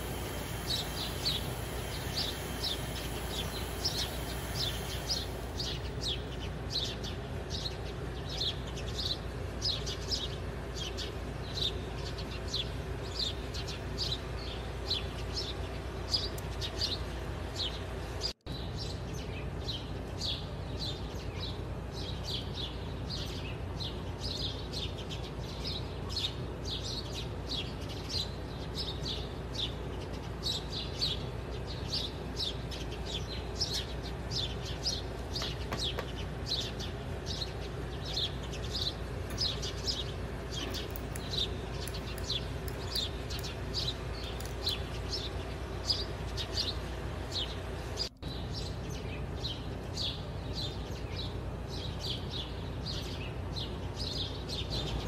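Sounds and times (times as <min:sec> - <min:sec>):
birds chirping: 0:00.0 - 0:55.0
low steady hum: 0:00.0 - 0:55.0.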